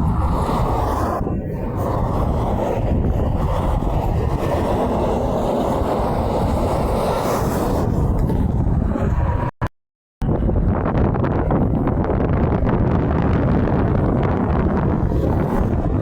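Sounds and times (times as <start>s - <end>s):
wind buffeting microphone: 0.0s - 9.5s, 10.2s - 16.0s.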